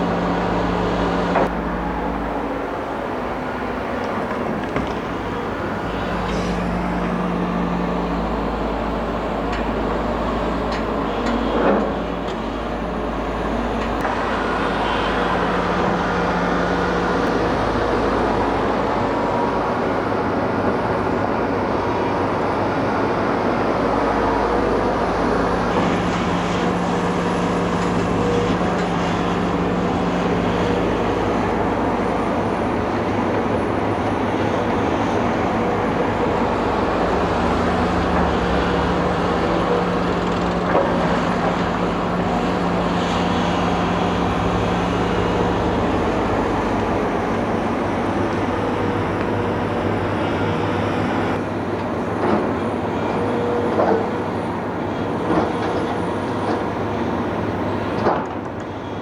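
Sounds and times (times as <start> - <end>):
diesel truck engine running: 0.0 - 57.7.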